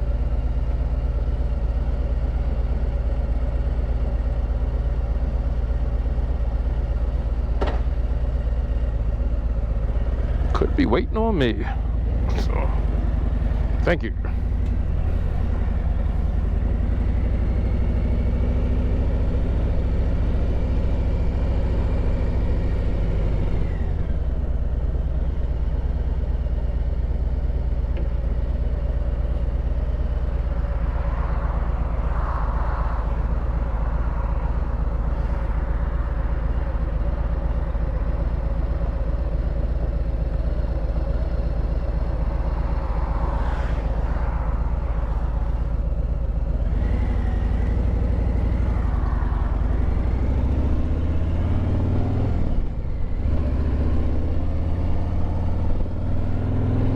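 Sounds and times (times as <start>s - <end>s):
motorcycle engine rumbling: 0.0s - 56.9s.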